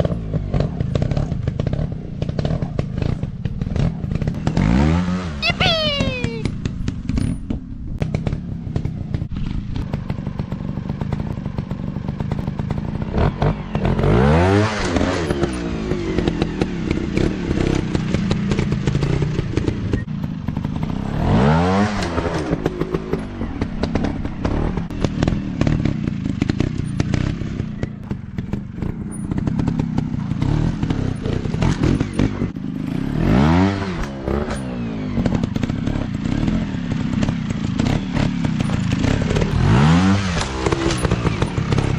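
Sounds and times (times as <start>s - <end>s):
dirt bike engines running: 0.0s - 41.9s
dirt bike passing close: 0.0s - 41.9s.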